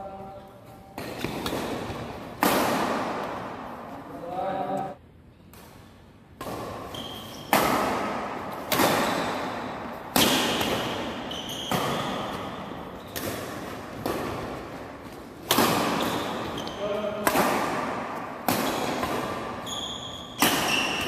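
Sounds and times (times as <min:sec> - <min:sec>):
rackets hitting shuttlecock: 0:00.9 - 0:04.0, 0:05.5 - 0:21.0.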